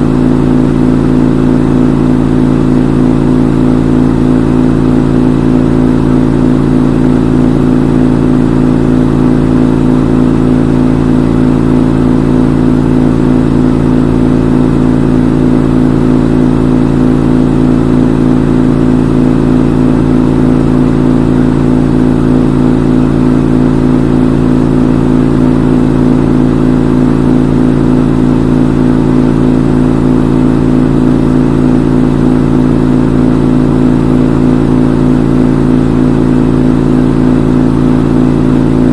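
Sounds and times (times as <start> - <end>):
washing machine spin cycle: 0.0 - 38.9.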